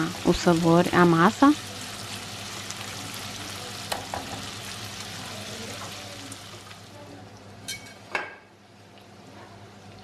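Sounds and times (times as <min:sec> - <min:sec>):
bacon sizzling in oil: 0:00.0 - 0:10.0.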